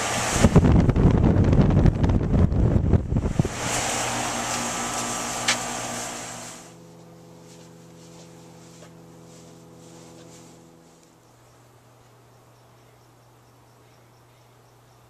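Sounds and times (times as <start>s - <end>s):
condenser fan air rush: 0.0s - 12.3s
air conditioner mechanical hum: 0.0s - 15.0s.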